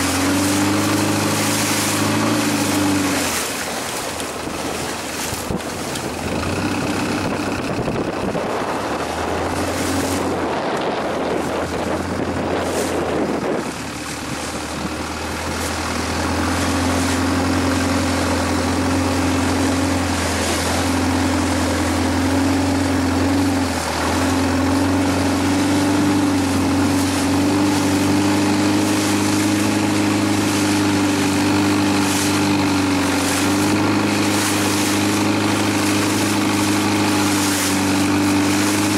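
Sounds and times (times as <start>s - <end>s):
boat engine running: 0.0s - 38.9s
rushing water: 0.0s - 38.9s.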